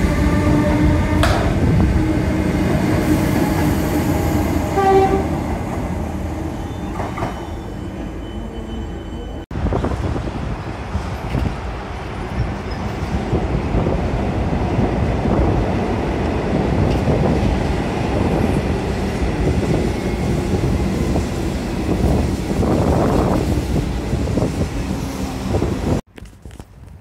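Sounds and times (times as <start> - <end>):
train rumbling over steel bridge: 0.0 - 26.1.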